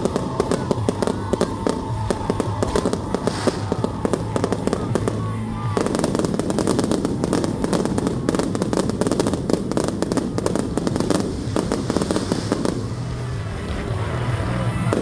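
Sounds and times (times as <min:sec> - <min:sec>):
fireworks crackling bangs: 0:00.0 - 0:15.0.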